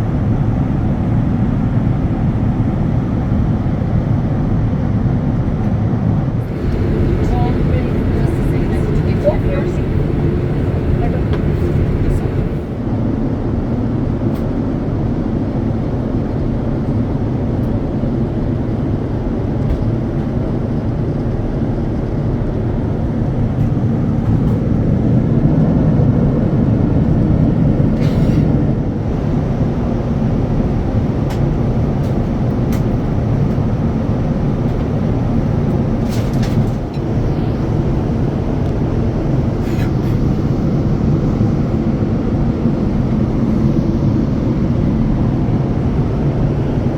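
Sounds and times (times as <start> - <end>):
airliner cabin rumble: 0.0 - 14.8, 15.4 - 46.9.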